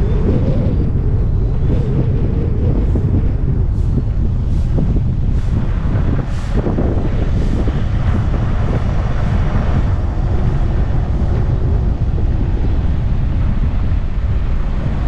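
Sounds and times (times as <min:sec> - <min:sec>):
car road rumble: 0:00.0 - 0:15.0
wind buffeting microphone: 0:00.0 - 0:15.0.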